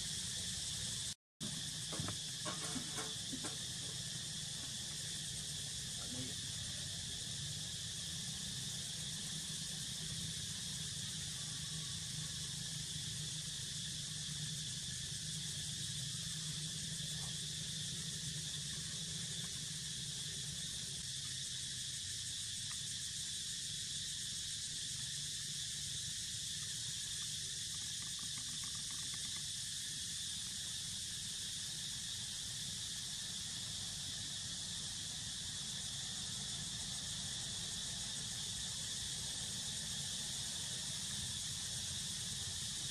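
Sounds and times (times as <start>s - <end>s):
high-pitched hiss: 0.0s - 42.9s.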